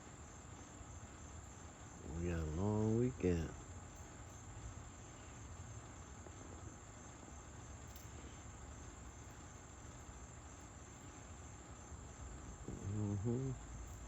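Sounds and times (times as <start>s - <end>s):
insects trilling: 0.0s - 14.0s
faint background hush: 1.5s - 14.0s.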